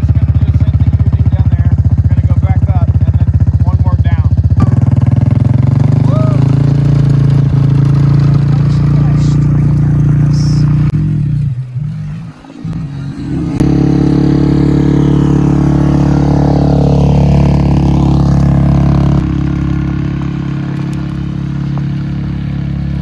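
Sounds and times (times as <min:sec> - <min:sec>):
atv engine running hard: 0:00.0 - 0:23.0.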